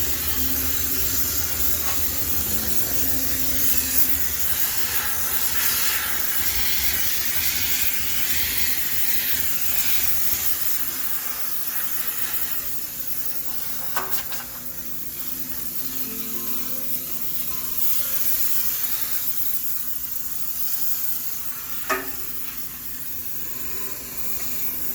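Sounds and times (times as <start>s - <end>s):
steam cleaner hissing: 0.0s - 24.9s.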